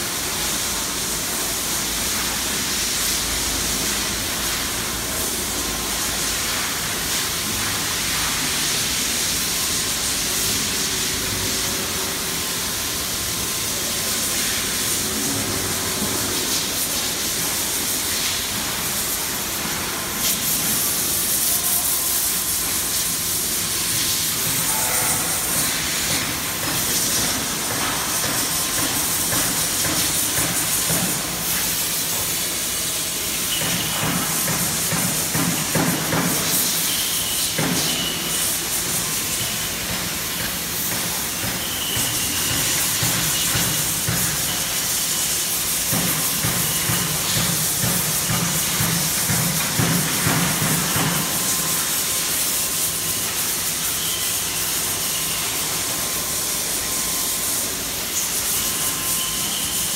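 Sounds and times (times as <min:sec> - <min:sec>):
machine hissing: 0:00.0 - 0:59.9.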